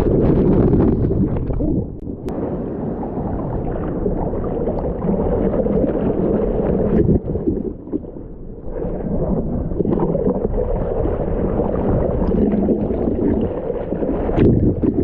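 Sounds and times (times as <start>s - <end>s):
churning surf water gurgling: 0.0s - 15.0s.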